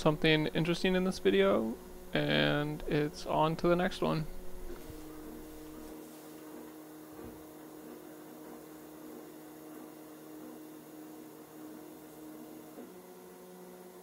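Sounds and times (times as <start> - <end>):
stepper motors humming: 0.0 - 14.0.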